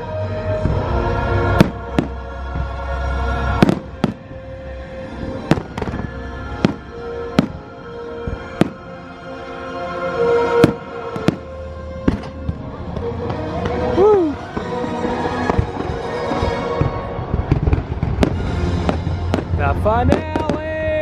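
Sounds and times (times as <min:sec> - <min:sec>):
soundtrack music: 0:00.0 - 0:21.0
fireworks bangs: 0:00.6 - 0:02.8, 0:03.5 - 0:04.5, 0:05.3 - 0:09.0, 0:10.4 - 0:21.0.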